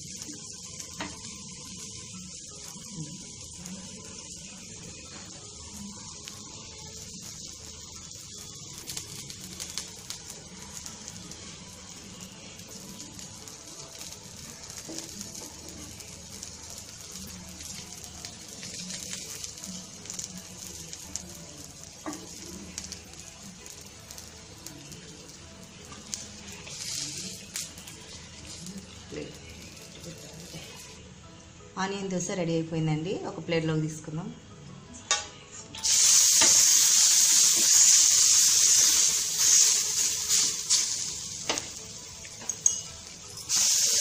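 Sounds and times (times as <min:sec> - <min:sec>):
dosa sizzling in oil: 0:00.0 - 0:31.0, 0:35.8 - 0:44.0.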